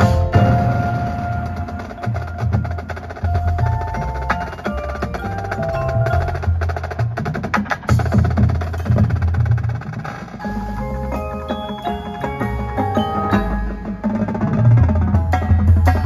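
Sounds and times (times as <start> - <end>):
marimbas and vibraphones: 0.0 - 7.3, 10.4 - 16.0
drums: 0.0 - 16.0.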